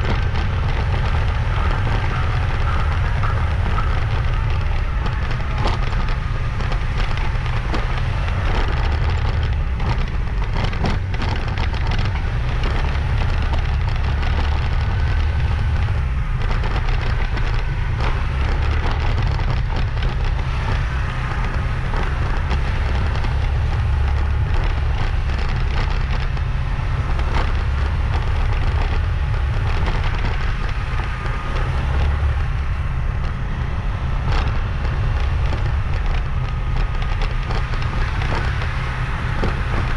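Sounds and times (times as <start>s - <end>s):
motorbike engine: 0.0s - 39.9s
road noise: 0.0s - 39.9s
wind buffeting microphone: 0.0s - 39.9s.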